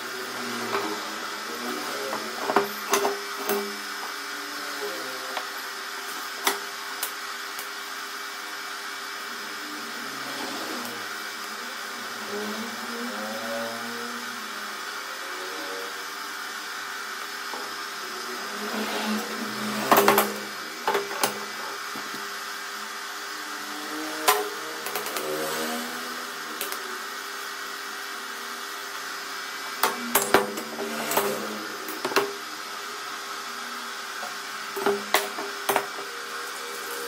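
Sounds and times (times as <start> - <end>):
welder hissing and humming: 0.0 - 37.0.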